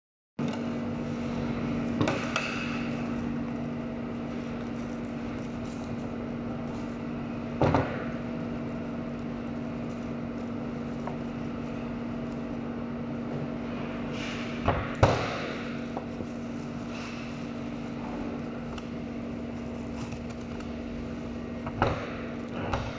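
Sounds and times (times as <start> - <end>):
machinery humming: 0.4 - 22.9.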